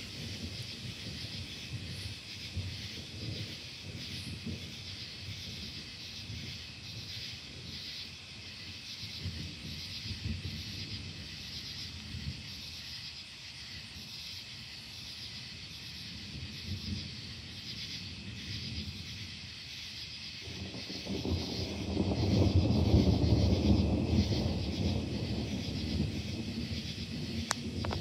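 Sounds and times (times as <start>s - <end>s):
distant rolling thunder: 0.0s - 13.0s, 15.5s - 28.0s
insects chirping: 0.0s - 28.0s.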